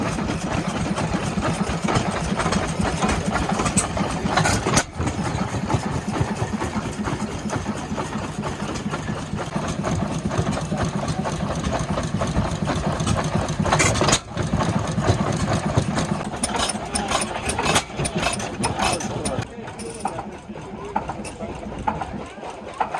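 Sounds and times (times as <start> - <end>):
stationary engines running: 0.0 - 22.9.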